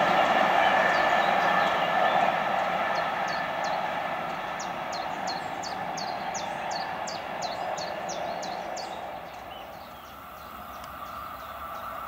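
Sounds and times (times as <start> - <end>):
electric train rolling on track: 0.0 - 12.0.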